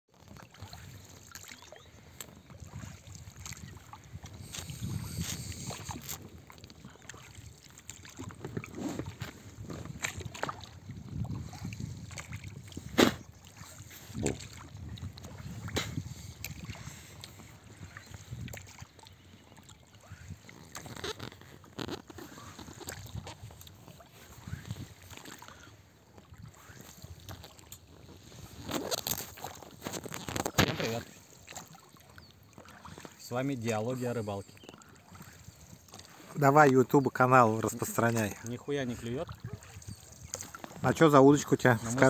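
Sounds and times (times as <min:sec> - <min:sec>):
water sloshing against boat: 0:00.1 - 0:42.0.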